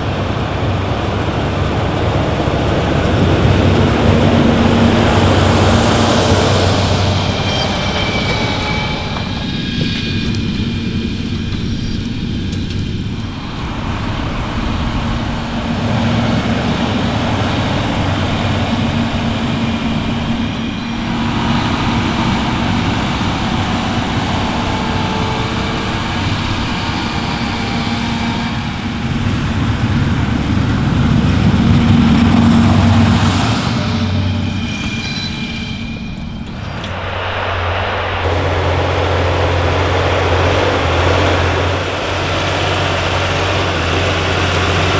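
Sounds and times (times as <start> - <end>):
farm machinery diesel engines droning: 0.0 - 44.9
loud mechanical noise: 0.0 - 44.9.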